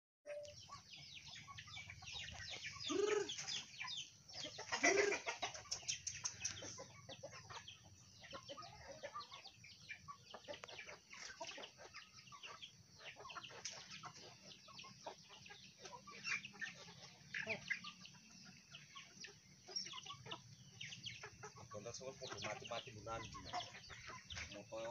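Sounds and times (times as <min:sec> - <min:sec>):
chickens clucking: 0:00.3 - 0:24.9
loud chicken calls: 0:00.3 - 0:24.9.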